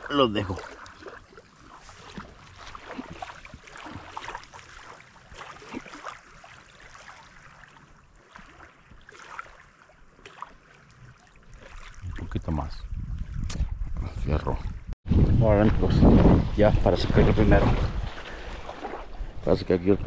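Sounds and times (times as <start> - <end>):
small waves lapping: 0.0 - 14.9, 15.7 - 20.0.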